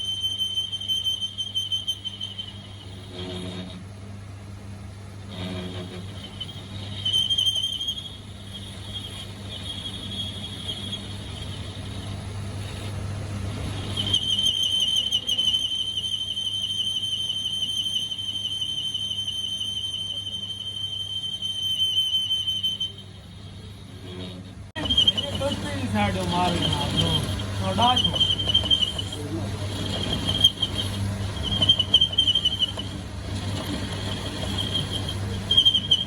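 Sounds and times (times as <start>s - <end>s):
machine low hum: 0.0s - 36.0s
machine high-pitched whine: 5.1s - 36.0s.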